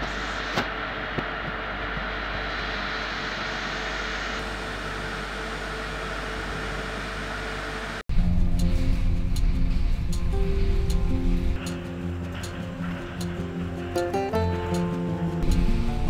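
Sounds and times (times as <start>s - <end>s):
electric hoist humming: 0.0s - 16.0s.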